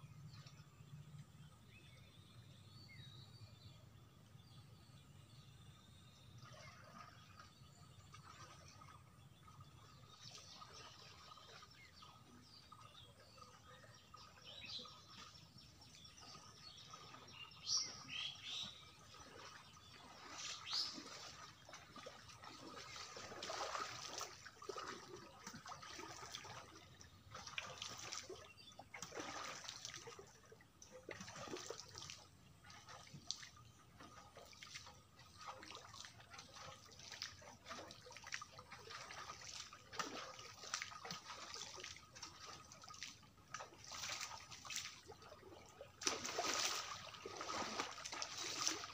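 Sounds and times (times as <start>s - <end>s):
water sloshing from wading: 5.6s - 48.9s.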